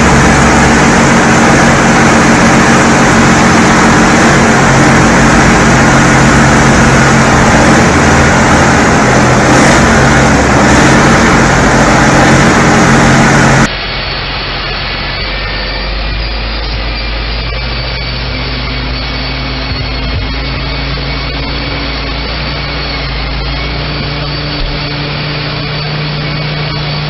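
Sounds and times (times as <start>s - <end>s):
dull engine hum: 0.0s - 27.0s
heavy machine engine running: 0.0s - 27.0s.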